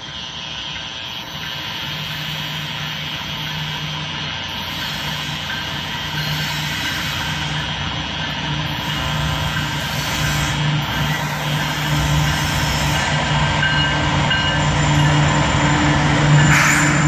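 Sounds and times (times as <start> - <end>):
diesel locomotives running: 0.0 - 17.0.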